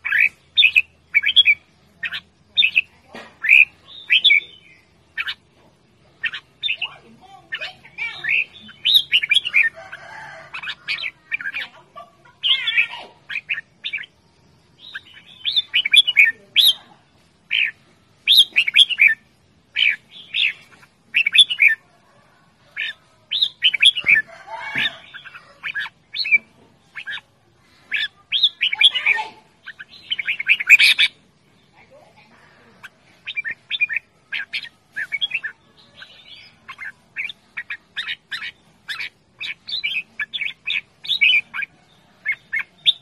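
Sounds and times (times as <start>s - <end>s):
bird singing short phrases: 0.0s - 5.4s, 6.1s - 9.7s, 10.6s - 21.8s, 22.8s - 43.0s.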